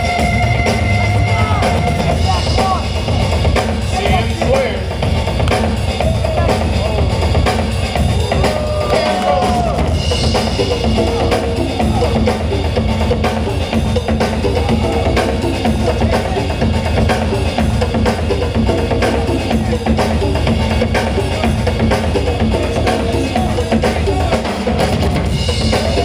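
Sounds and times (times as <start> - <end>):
dance music with heavy beat: 0.0 - 26.0.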